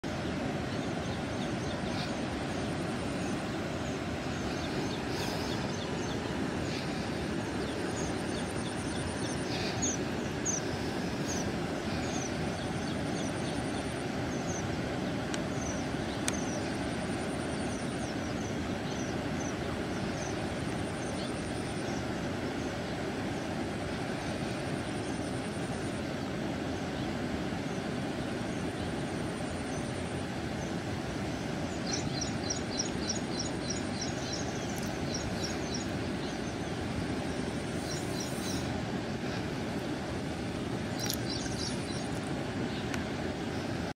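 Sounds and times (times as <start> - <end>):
low outdoor pond rumble: 0.0 - 43.9
small birds chirping: 0.1 - 23.6, 24.2 - 43.9.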